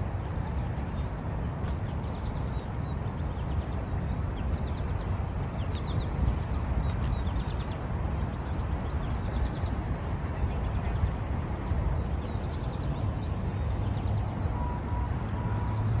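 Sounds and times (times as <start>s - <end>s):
faint steady tone: 0.0s - 16.0s
steady low rumble: 0.0s - 16.0s
small birds chirping: 0.3s - 14.6s.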